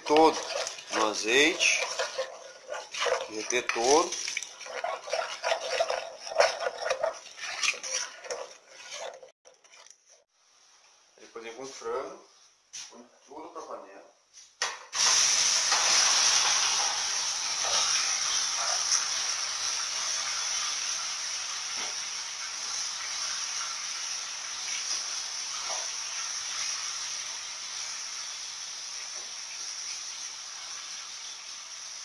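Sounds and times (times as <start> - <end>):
chicken sizzling in a pot: 0.0 - 11.2, 14.6 - 32.0.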